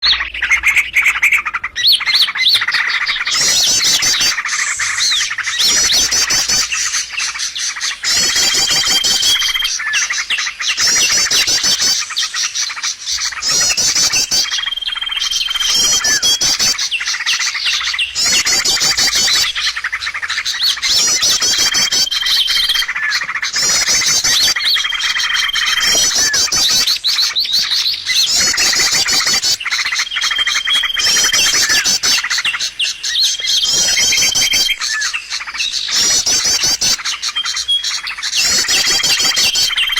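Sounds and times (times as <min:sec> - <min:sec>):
rapid bird chirping and trills: 0:00.0 - 0:39.9.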